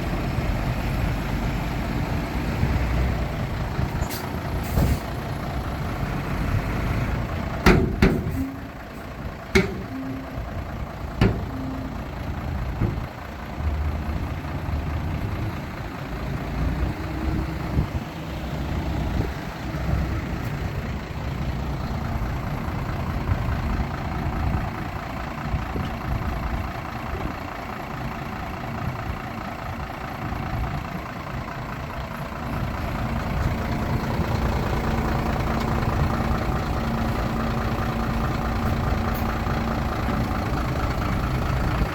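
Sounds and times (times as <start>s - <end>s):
heavy diesel machinery rumbling: 0.0s - 41.9s.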